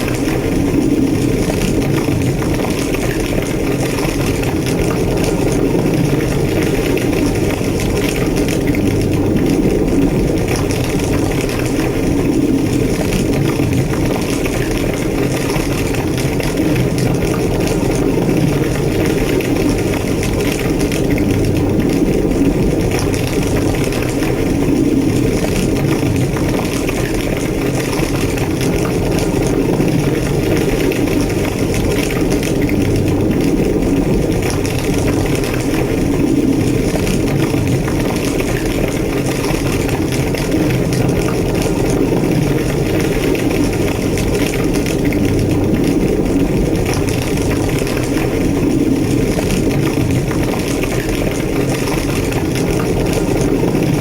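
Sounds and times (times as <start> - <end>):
large fire roaring and crackling: 0.0 - 54.0.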